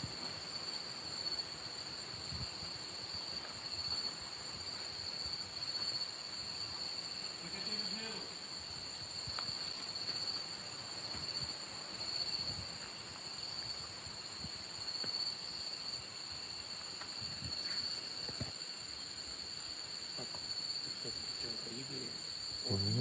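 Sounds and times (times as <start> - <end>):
crickets and insects buzzing: 0.0 - 23.0.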